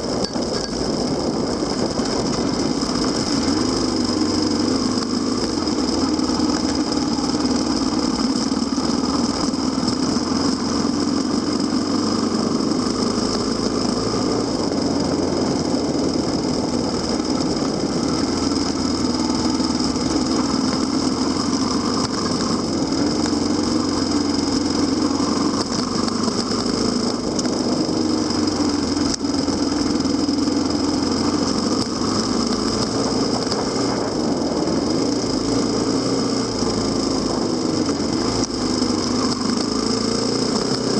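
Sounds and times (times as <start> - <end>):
motorcycle engine riding along: 0.0 - 40.9.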